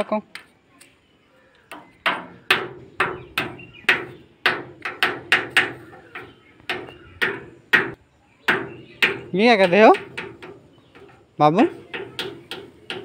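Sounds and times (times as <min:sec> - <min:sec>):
stick knocking on metal gate: 0:01.7 - 0:13.0.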